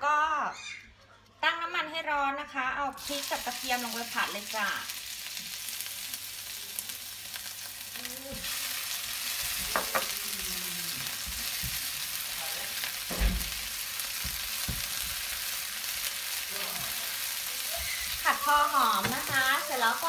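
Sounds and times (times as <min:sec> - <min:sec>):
chilli sizzling in hot oil: 0:02.9 - 0:20.0.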